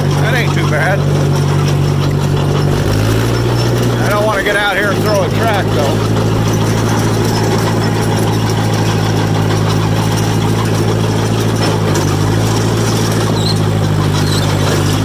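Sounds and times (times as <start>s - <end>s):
crawler engine running: 0.0s - 15.0s
steel tracks over gravel: 0.0s - 15.0s.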